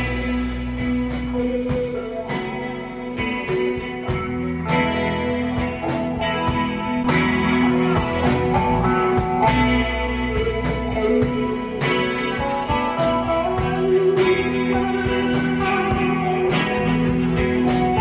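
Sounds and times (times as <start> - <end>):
drums: 0.0 - 18.0
electric guitars: 0.0 - 18.0.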